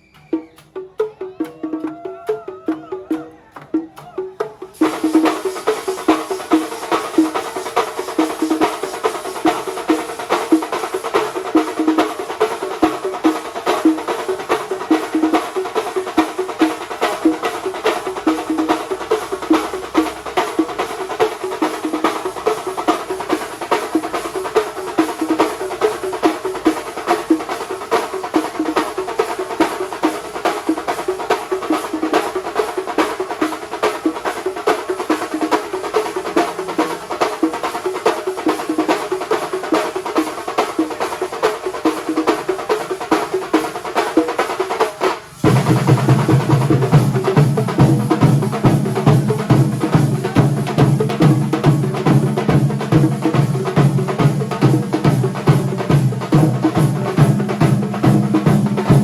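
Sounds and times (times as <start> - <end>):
rapid percussion ensemble drumming: 0.0 - 59.0.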